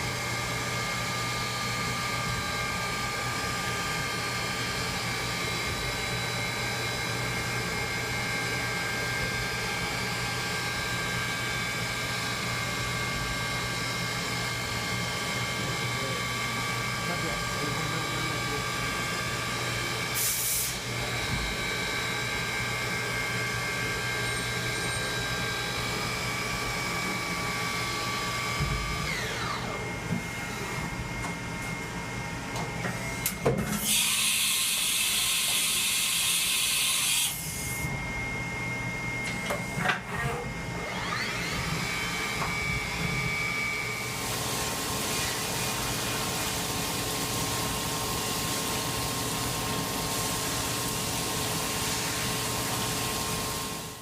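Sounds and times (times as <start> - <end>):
milling machine motor whine: 0.0 - 54.0.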